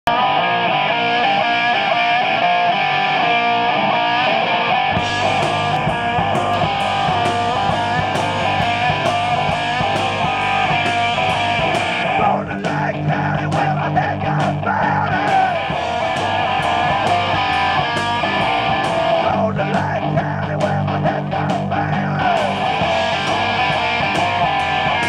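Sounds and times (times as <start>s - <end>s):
bass guitar: 0.0s - 25.0s
electric guitar riff: 0.0s - 25.0s
drums: 0.1s - 25.0s.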